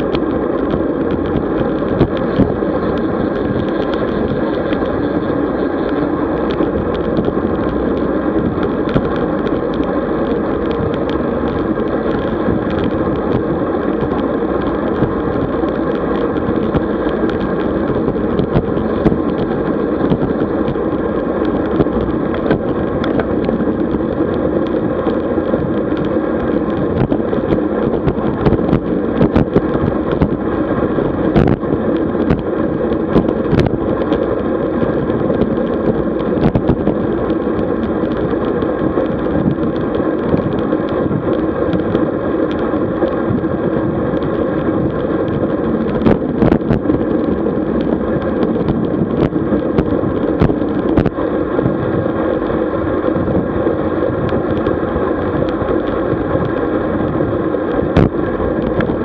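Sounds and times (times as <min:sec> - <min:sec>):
bike tyres rolling on road: 0:00.0 - 0:59.0
wind on microphone: 0:00.0 - 0:59.0.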